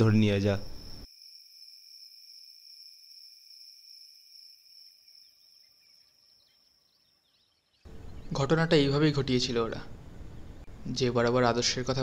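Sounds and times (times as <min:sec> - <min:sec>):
crickets chirping: 0:00.0 - 0:10.6.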